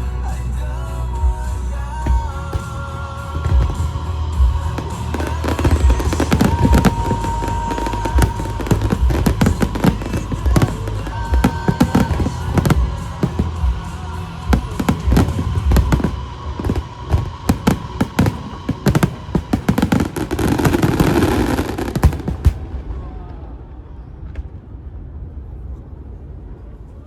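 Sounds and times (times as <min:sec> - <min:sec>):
fireworks bursting: 0:00.0 - 0:24.6.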